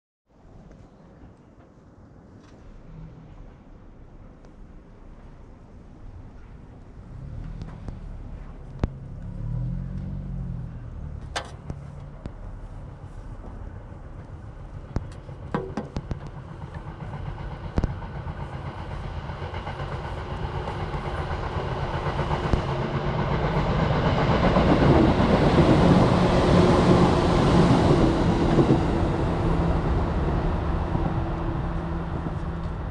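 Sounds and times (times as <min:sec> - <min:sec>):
electric train passing: 0:02.6 - 0:32.9.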